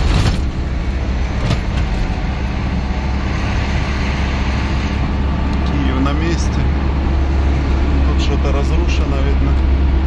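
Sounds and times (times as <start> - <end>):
vehicle engine and road drone: 0.0 - 10.0.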